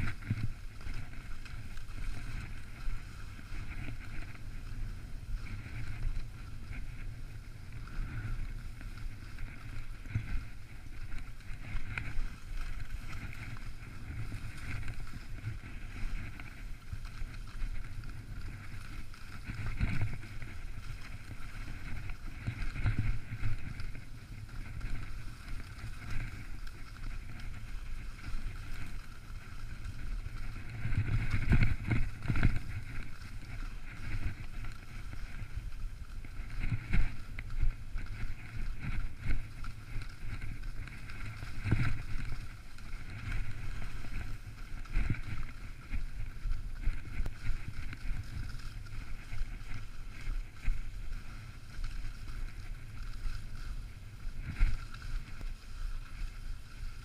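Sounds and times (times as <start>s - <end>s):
skis sliding over crusty snow: 0.0s - 57.0s
wind on microphone: 0.0s - 57.0s.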